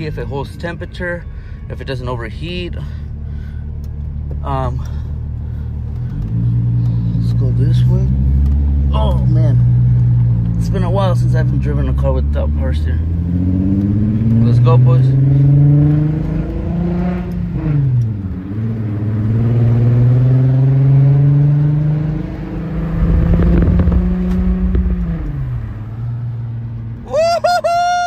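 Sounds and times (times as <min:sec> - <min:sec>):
car engine revving: 0:03.7 - 0:27.0.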